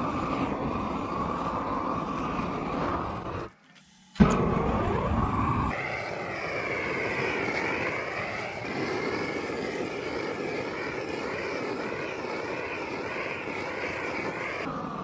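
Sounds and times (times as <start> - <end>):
propane torch flame rushing: 0.0 - 3.6, 4.2 - 15.0.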